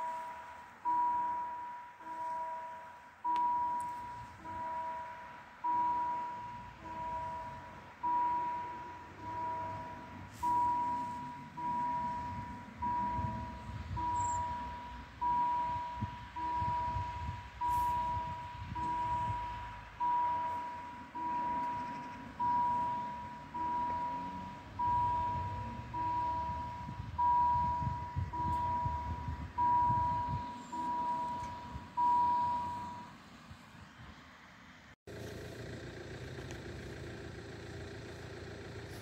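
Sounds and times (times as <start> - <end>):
level crossing warning bell: 0.0 - 33.2.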